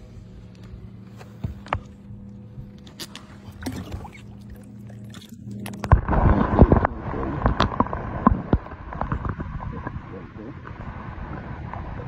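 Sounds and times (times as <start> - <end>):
low steady hum: 0.0 - 12.0
water splashing and sloshing: 0.0 - 12.0
underwater knocks and sloshes: 1.2 - 12.0.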